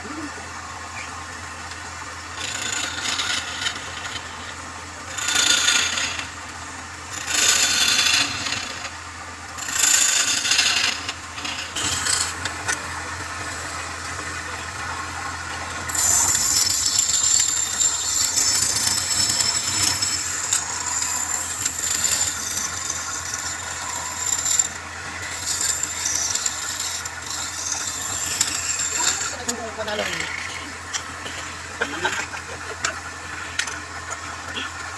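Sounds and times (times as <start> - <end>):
wood lathe motor hum: 0.0 - 34.9
lathe tool scraping wood: 2.3 - 34.9.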